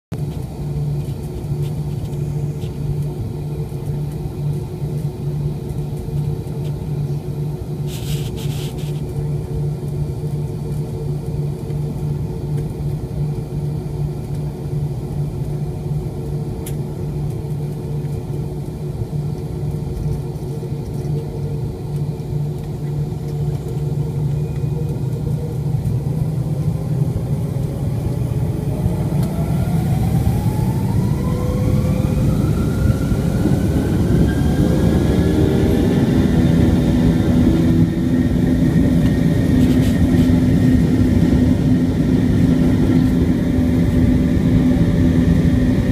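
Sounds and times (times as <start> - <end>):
jet engine whine rising: 0.2 - 45.9
jet engines rumbling: 0.2 - 45.9.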